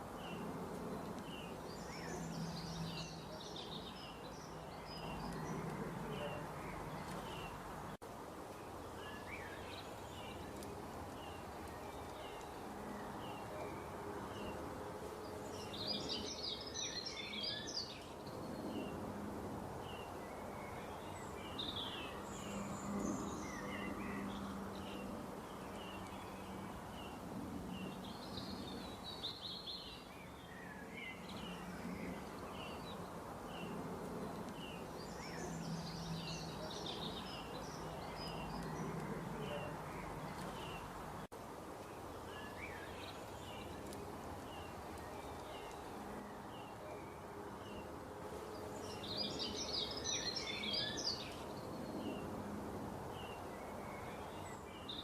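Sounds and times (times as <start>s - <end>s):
birds chirping: 0.0s - 19.1s, 19.7s - 52.4s
steady background hiss: 0.0s - 55.0s.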